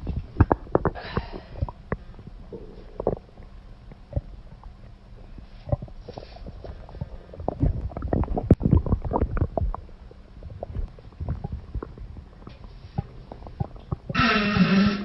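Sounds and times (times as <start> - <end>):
stomach gurgling and rumbling: 0.0 - 15.0.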